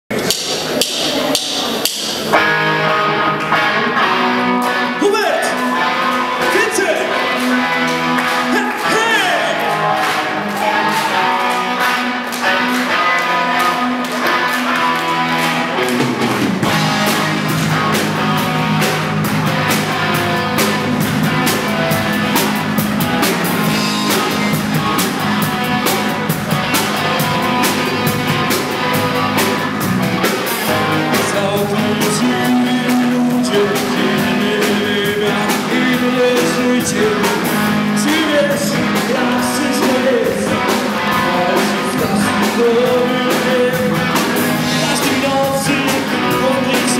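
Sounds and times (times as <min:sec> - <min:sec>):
rock song with guitar and drums: 0:00.1 - 0:46.9.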